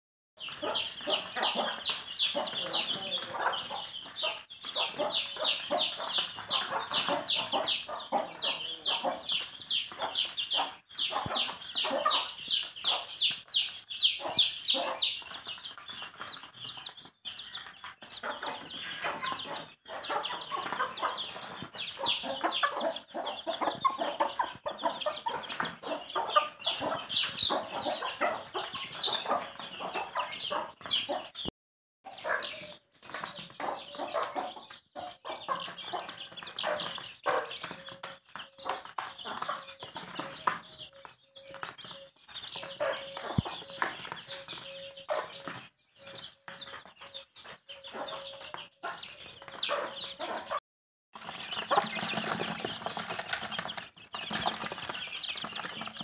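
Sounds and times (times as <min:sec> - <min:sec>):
chicks peeping: 0:00.4 - 0:31.5, 0:32.1 - 0:50.6, 0:51.2 - 0:56.0.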